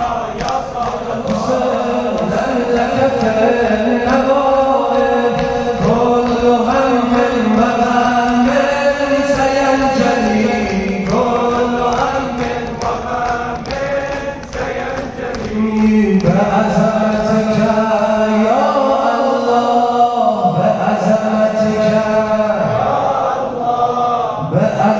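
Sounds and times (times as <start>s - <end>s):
mourning chant sung melodically: 0.0s - 24.9s.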